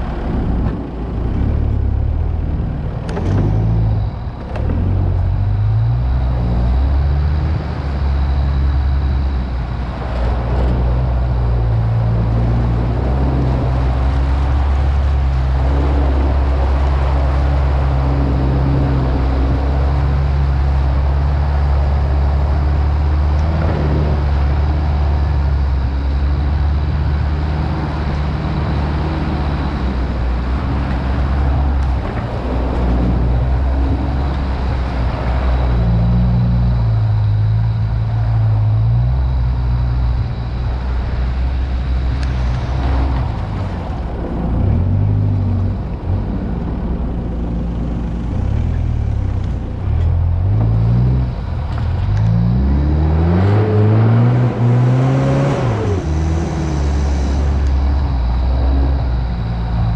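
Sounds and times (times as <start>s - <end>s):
car engine revving in mud: 0.0s - 59.9s.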